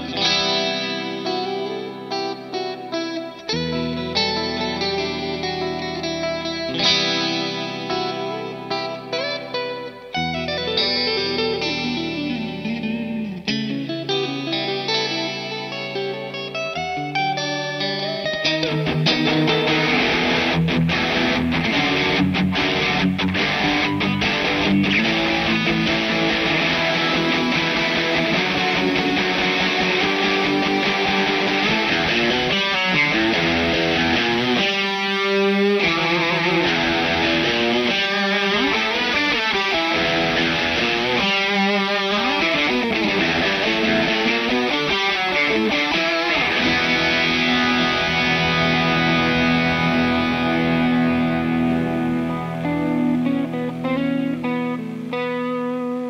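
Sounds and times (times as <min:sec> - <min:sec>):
electric guitar melodic line: 0:00.0 - 0:56.0.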